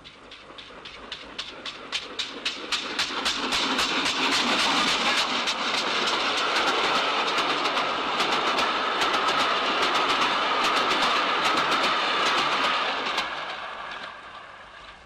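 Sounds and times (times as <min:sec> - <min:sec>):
train rumbling: 0:00.0 - 0:15.0
train wheels clicking over rail joints: 0:00.0 - 0:15.0.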